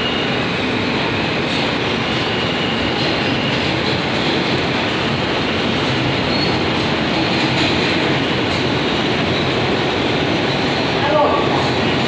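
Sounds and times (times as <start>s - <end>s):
subway wheels on rails: 0.0s - 12.0s.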